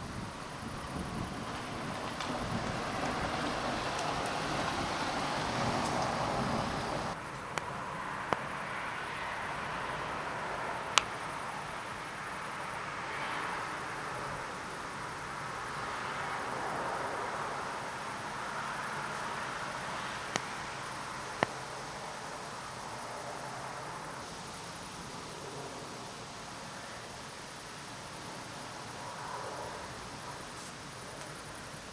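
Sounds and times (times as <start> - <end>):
outdoor night ambience hiss: 0.0 - 31.9.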